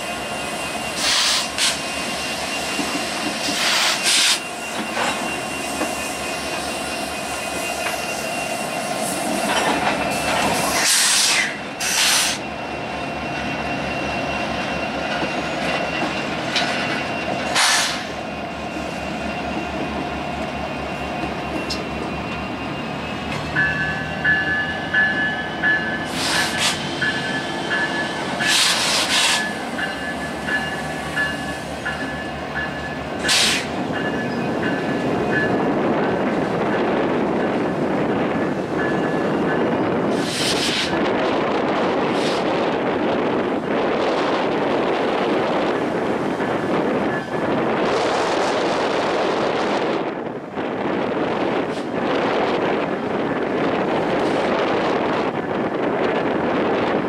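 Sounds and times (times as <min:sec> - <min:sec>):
diesel locomotive engines throbbing: 0:00.0 - 0:57.0.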